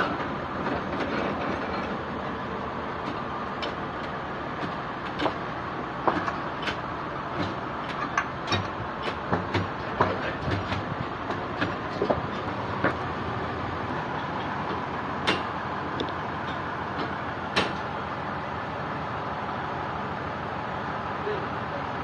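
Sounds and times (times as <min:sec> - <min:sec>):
sawmill machinery din: 0:00.0 - 0:22.0.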